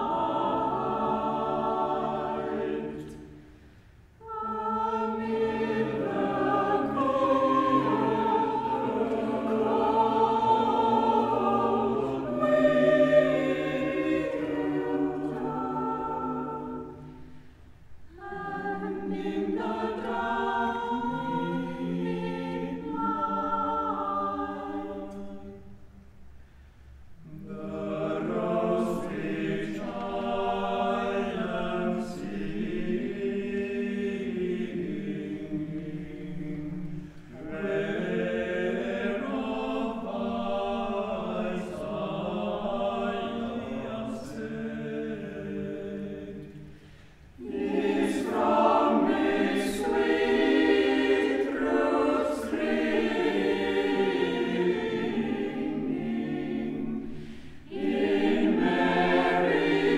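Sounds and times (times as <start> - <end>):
mixed choir singing: 0.0 - 25.8, 27.2 - 59.9.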